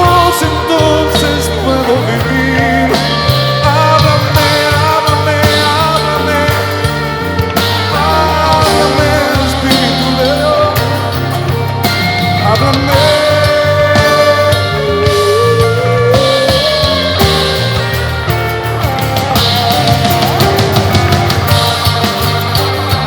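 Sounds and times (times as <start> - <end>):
instrumental pop-rock ballad: 0.0 - 23.0.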